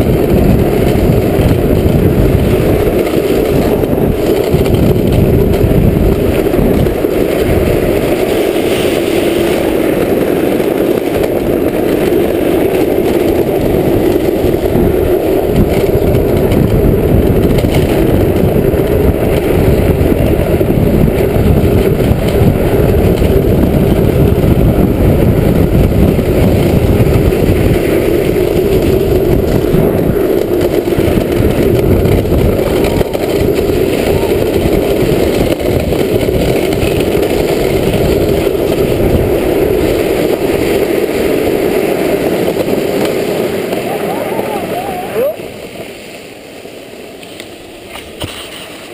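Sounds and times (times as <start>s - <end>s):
wheels rumbling on tarmac: 0.0s - 48.9s
wind rushing over microphone: 0.0s - 48.9s.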